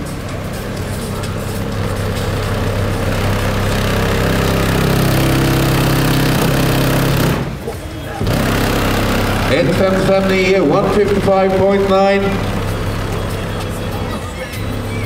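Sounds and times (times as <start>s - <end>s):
deep bass tone from subwoofers: 0.0s - 15.0s.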